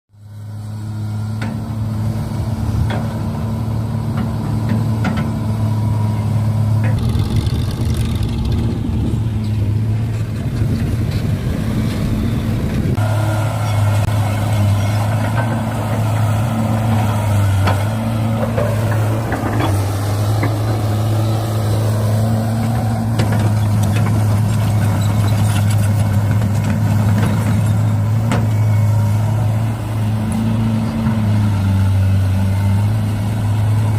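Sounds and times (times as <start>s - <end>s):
low engine-like hum: 0.1s - 33.9s
churning grinding noise: 3.9s - 33.9s.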